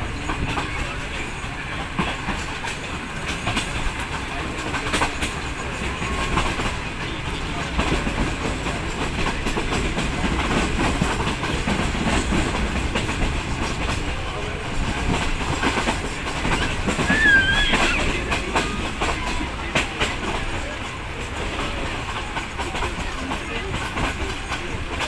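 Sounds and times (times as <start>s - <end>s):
train rumbling: 0.0s - 25.0s
wheels clicking over rail joints: 0.0s - 25.0s.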